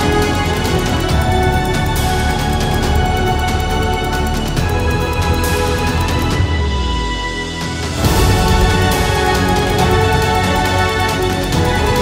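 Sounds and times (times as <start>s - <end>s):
music with a steady beat: 0.0s - 12.0s.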